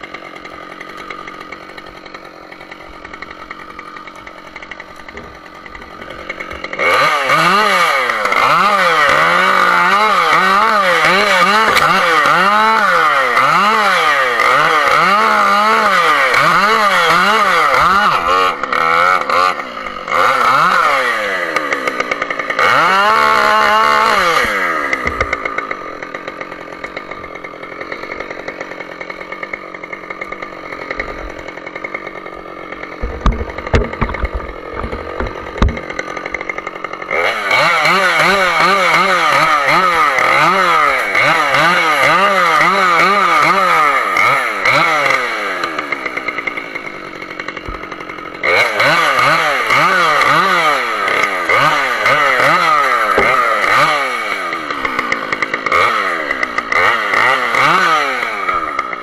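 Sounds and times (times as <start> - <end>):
chainsaw cutting branches: 0.0 - 59.0
chainsaw idling and revving: 0.0 - 59.0.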